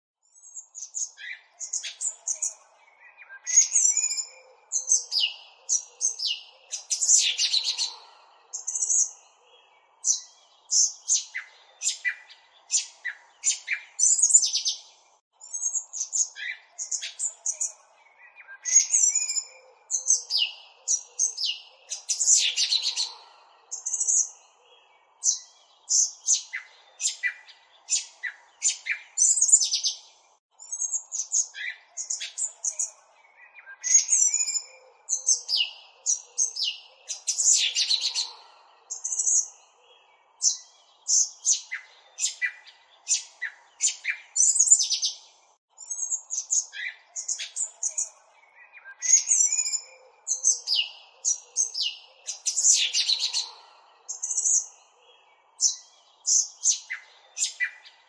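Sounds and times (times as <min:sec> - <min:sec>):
birds chirping: 0:00.2 - 0:58.0.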